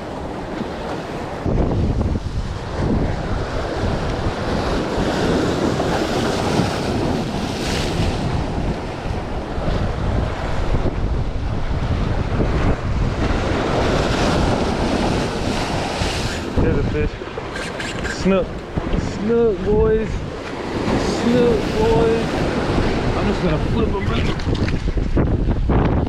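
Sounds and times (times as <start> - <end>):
waves washing: 0.0 - 25.8
wind buffeting microphone: 0.0 - 26.0.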